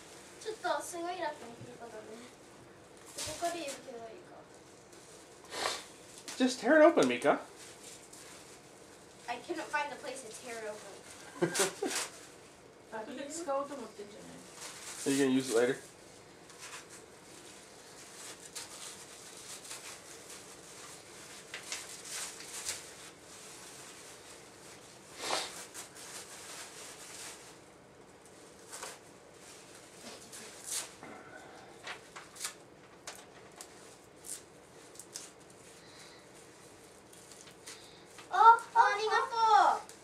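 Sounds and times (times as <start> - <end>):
wrapping paper rustling and tearing: 0.0 - 31.0, 31.7 - 40.0.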